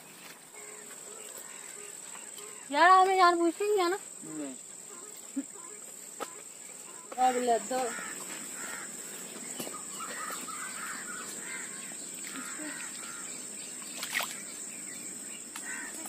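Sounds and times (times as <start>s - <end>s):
birds calling: 0.0s - 16.0s
high-pitched insect drone: 0.6s - 16.0s.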